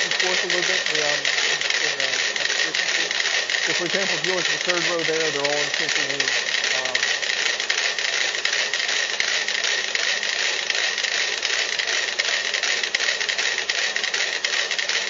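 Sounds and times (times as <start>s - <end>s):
metronomes ticking: 0.0s - 14.2s.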